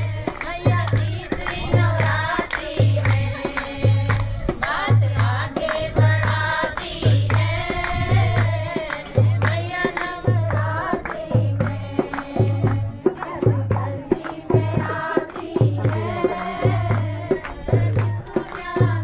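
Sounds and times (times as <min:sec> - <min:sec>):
women singing devotional song: 0:00.0 - 0:19.0.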